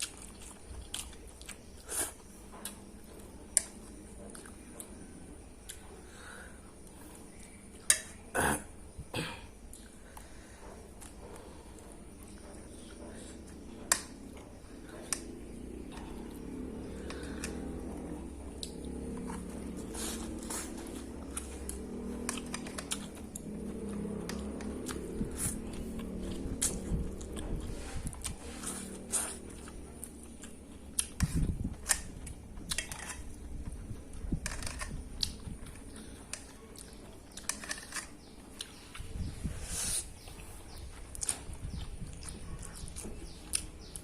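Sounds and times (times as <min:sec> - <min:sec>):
person chewing noodles: 0:00.0 - 0:08.3, 0:09.6 - 0:44.0
steady low hum: 0:00.0 - 0:44.0.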